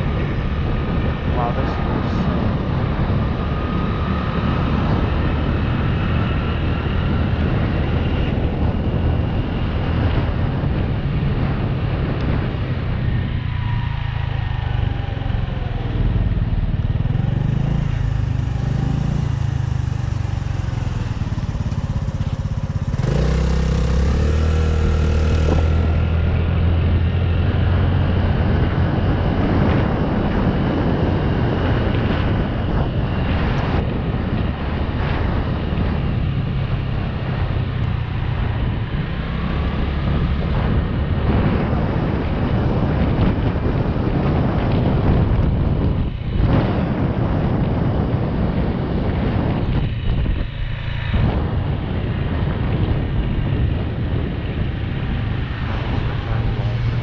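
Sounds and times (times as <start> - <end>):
motorcycle engine revving: 0.0 - 57.0
wind over microphone: 0.0 - 57.0.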